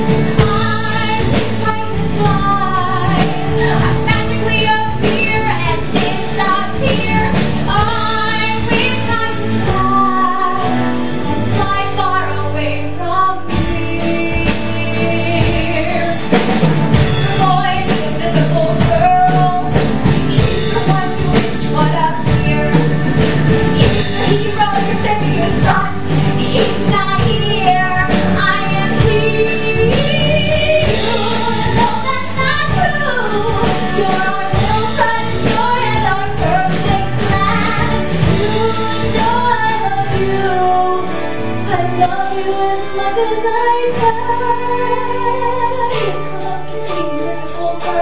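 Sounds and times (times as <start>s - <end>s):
pop-rock band with drums: 0.0s - 48.0s
woman singing: 0.0s - 48.0s.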